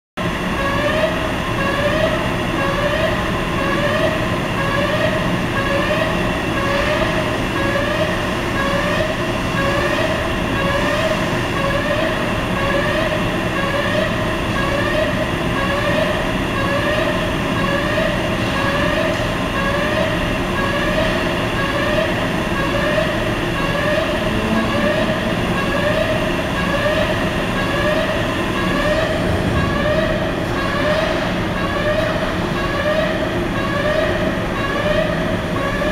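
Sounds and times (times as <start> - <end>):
machinery hum: 0.2 - 35.9.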